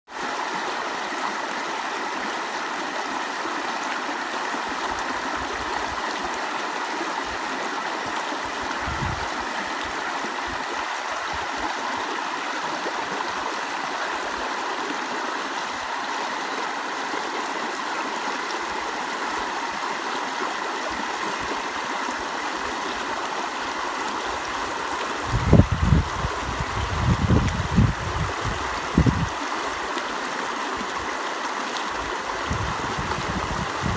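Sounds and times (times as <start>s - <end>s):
stream water flowing: 0.1s - 33.9s.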